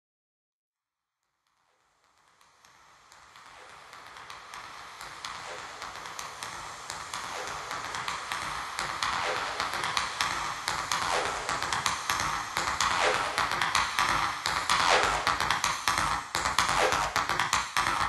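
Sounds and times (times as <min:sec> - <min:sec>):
fast breakbeat drum loop: 0:03.5 - 0:18.0.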